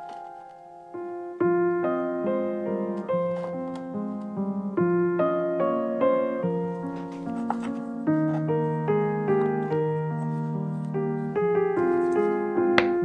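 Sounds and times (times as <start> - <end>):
piano playing single notes: 0.0 - 13.0.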